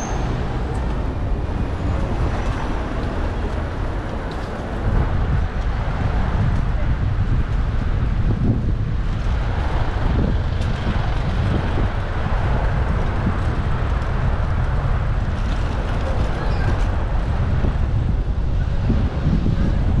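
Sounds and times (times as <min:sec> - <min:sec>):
road traffic: 0:00.0 - 0:20.0
wind rumble on microphone: 0:00.0 - 0:20.0.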